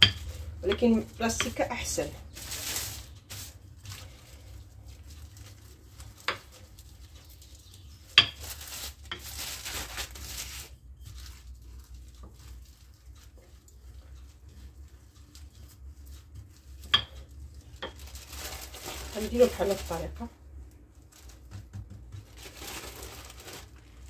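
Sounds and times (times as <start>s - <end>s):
rolling pin on plastic wrap: 0.0s - 24.0s.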